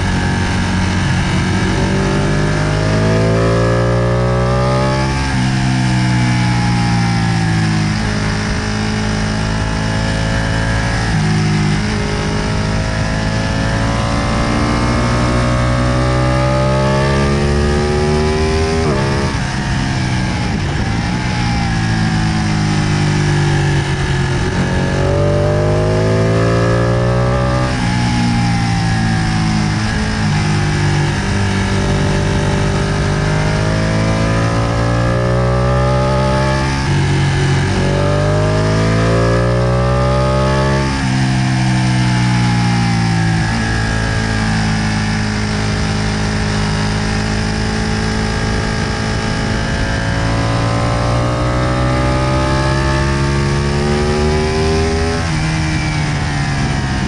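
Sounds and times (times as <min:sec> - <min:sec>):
motorcycle engine revving through gears: 0:00.0 - 0:57.0.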